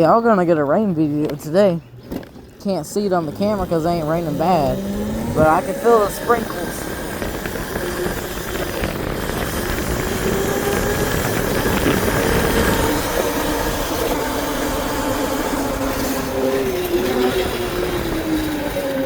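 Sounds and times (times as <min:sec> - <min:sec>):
wind rumble on microphone: 0:02.3 - 0:19.0
electric bike motor whining: 0:03.2 - 0:19.0.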